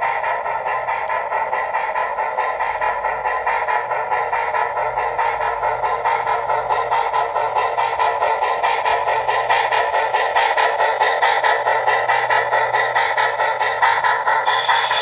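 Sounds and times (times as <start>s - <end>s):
steady low hum: 0.0s - 15.0s
steam exhaust chuffing: 0.0s - 15.0s.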